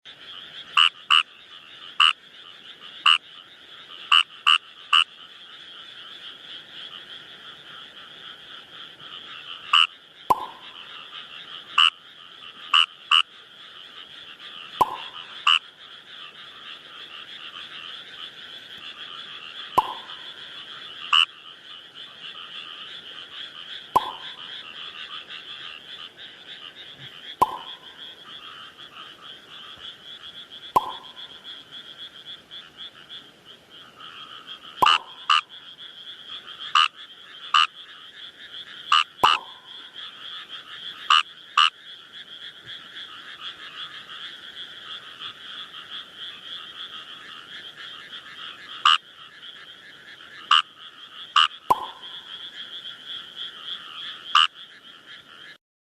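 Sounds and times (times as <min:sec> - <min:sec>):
dense frog chorus: 0:00.0 - 0:55.6
frogs calling: 0:00.1 - 0:55.6.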